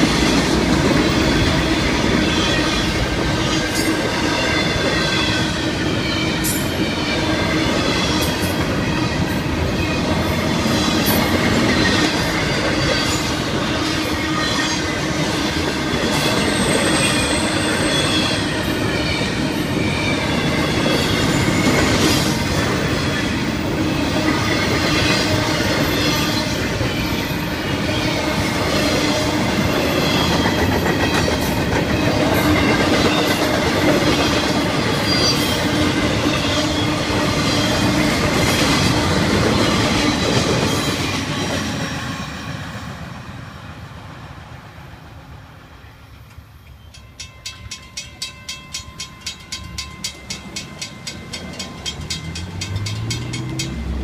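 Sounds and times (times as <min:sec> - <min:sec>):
crossing warning bell ringing: 0:00.0 - 0:42.7, 0:46.6 - 0:54.0
freight train wheels rumbling: 0:00.0 - 0:54.0.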